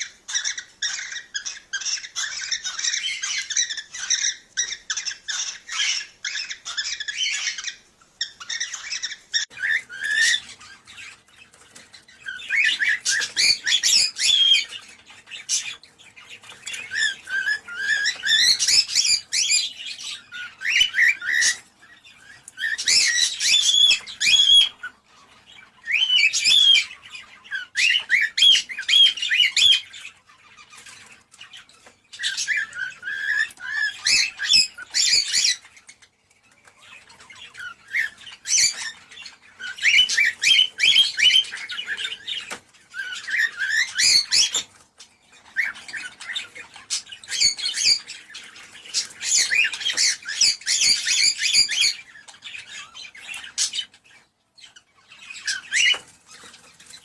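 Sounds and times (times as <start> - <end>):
cockatiels chirping and whistling: 0.0 - 57.0.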